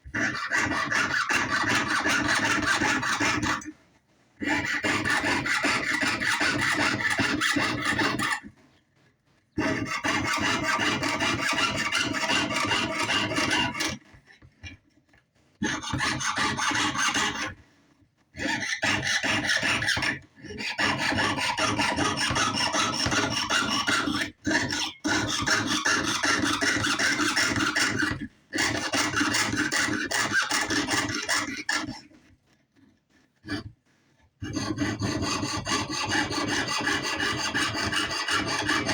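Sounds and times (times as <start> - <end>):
hand saw cutting sheet metal: 0.1 - 3.7, 4.4 - 8.5, 9.6 - 14.2, 15.6 - 17.6, 18.4 - 32.2, 33.4 - 33.7, 34.4 - 38.9.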